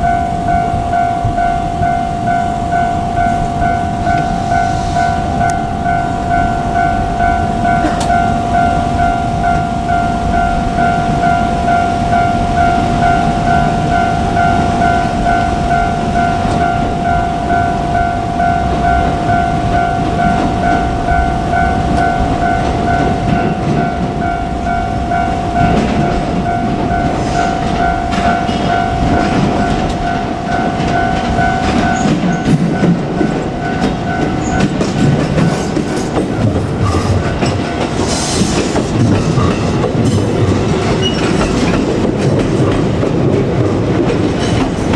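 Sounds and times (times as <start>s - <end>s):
level crossing bell ringing: 0.0s - 42.7s
train wheels clacking on rail joints: 0.0s - 44.9s.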